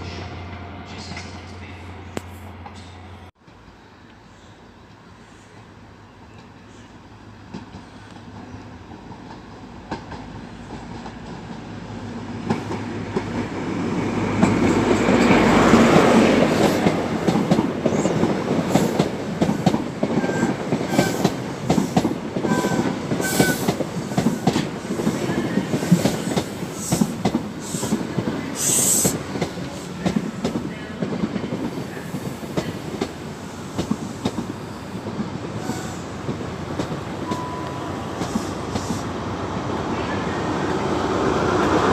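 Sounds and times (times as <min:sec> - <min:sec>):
diesel train engine: 0:00.0 - 0:41.9.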